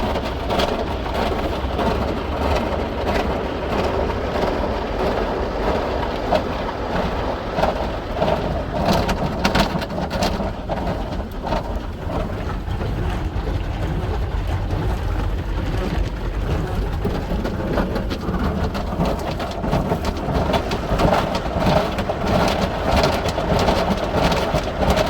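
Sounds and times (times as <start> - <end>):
low machinery rumble: 0.0 - 25.0.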